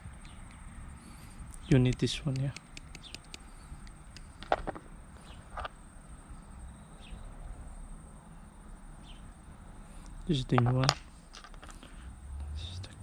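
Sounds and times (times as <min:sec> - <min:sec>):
faint high-pitched insect drone: 0:00.0 - 0:13.0.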